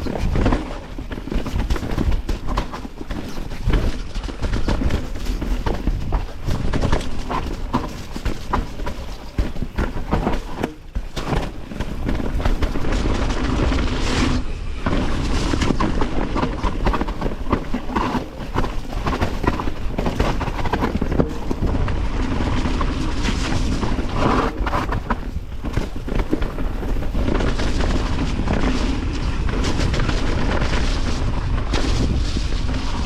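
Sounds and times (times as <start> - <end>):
bike rattling: 0.0 - 33.0
wind rumble on microphone: 0.0 - 33.0.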